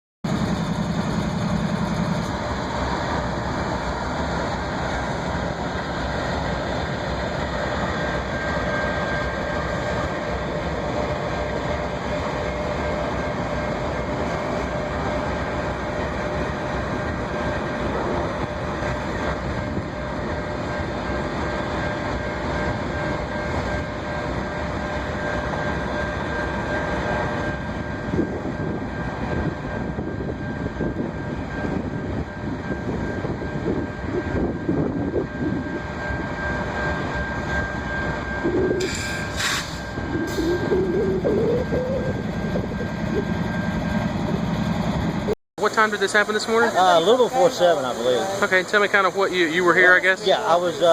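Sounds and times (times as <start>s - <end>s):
train rumble: 0.2s - 50.9s.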